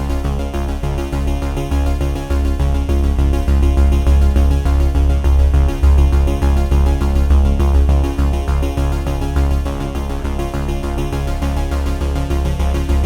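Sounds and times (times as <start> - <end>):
electronic music with pulsing bass: 0.0 - 13.0.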